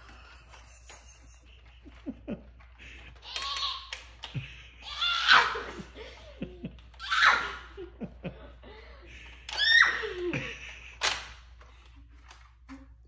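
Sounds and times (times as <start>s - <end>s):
child laughing: 0.0s - 11.0s.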